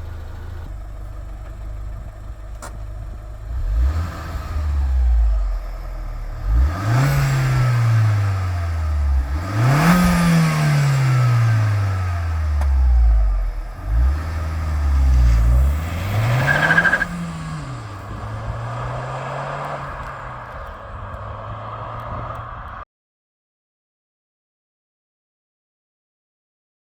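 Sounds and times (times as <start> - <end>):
car engine idling: 0.0 - 22.8
car engine revving: 0.0 - 22.8.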